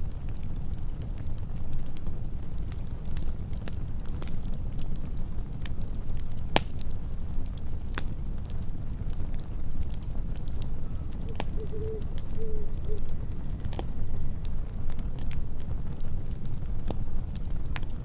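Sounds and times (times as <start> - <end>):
campfire crackling: 0.0 - 18.0
crickets chirping: 0.1 - 18.0.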